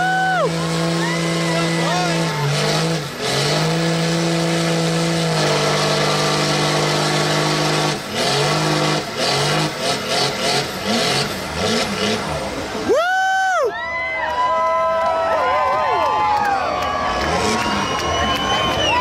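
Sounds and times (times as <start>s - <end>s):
tires spinning in mud: 0.0s - 13.0s, 15.8s - 19.0s
truck engine at high revs: 0.0s - 13.0s, 16.4s - 19.0s.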